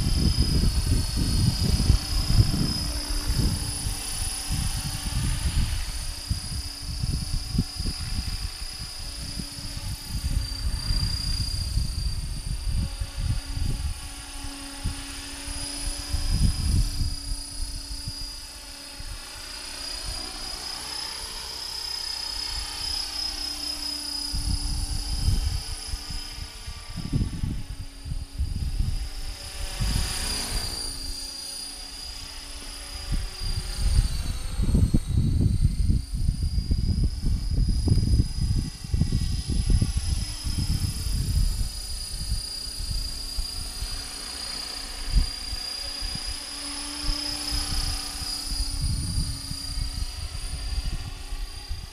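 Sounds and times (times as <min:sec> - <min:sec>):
wind buffeting microphone: 0:00.0 - 0:20.6, 0:24.2 - 0:51.9
rc helicopter rotor whine: 0:00.0 - 0:51.9.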